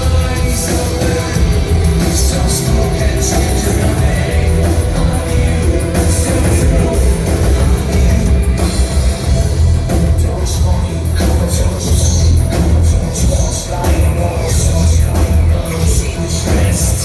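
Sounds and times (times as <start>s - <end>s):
live industrial rock music: 0.0s - 17.0s
person singing: 0.0s - 17.0s.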